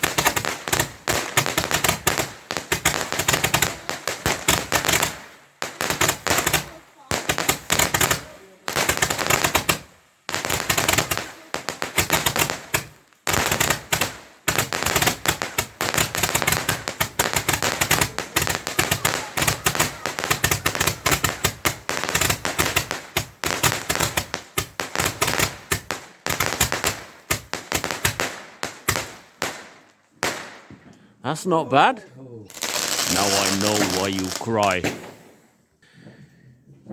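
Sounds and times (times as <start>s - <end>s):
fireworks crackling and banging: 0.0s - 35.7s.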